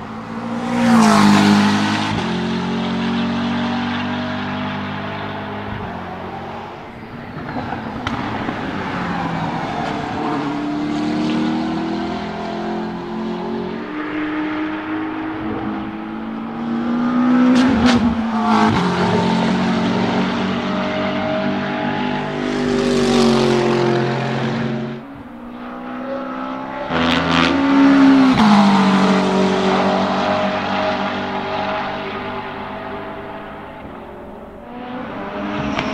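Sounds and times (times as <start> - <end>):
race car engine accelerating: 0.0 - 35.9.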